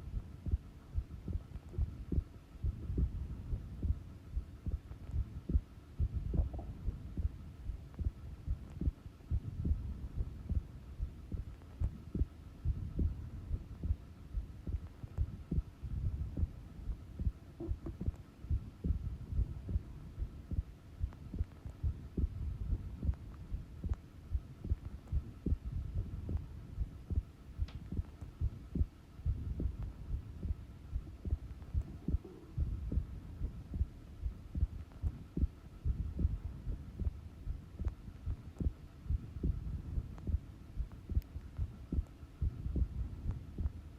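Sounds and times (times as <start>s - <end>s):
faint steady hum: 0.0s - 43.9s
heartbeat thumps: 0.0s - 43.9s.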